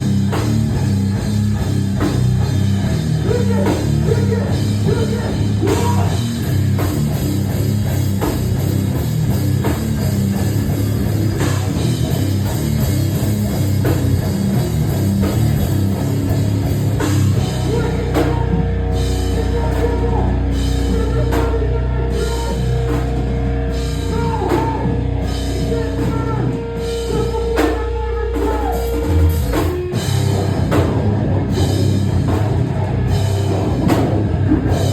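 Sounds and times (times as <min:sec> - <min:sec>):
bass guitar: 0:00.0 - 0:34.9
distorted guitars: 0:00.0 - 0:34.9
drum kit: 0:00.0 - 0:34.9.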